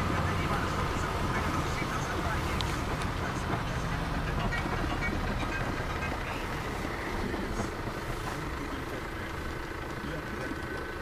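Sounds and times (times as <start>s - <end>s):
car driving on paved road: 0.0s - 11.0s.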